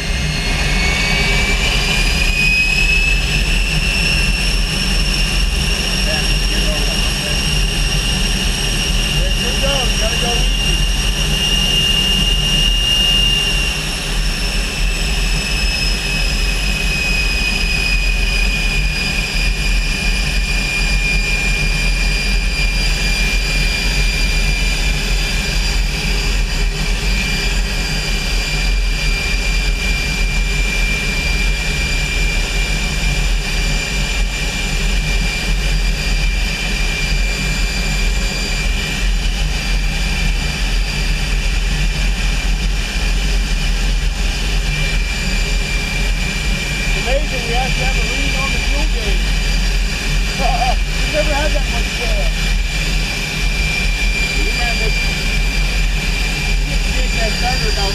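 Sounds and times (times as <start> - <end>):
jet turbine whine: 0.0 - 57.9.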